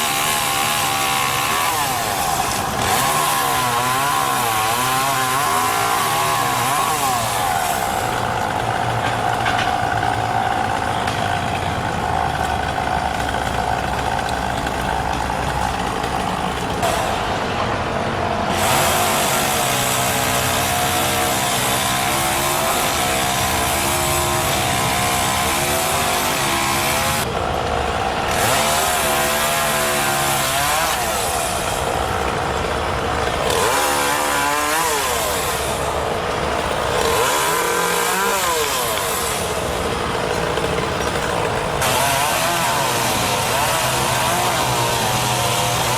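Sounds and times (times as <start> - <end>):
chainsaw engine revving: 0.0 - 17.3, 18.4 - 45.9.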